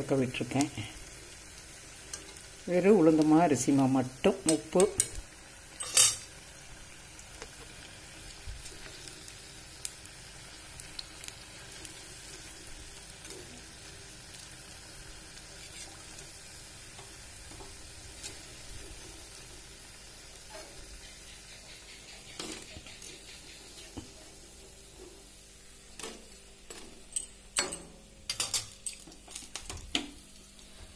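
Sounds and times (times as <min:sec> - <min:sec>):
deep-frying sizzle in oil: 0:00.0 - 0:30.9.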